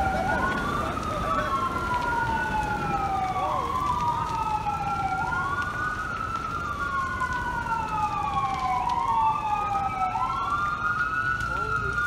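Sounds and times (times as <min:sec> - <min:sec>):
emergency sirens wailing: 0:00.0 - 0:12.0.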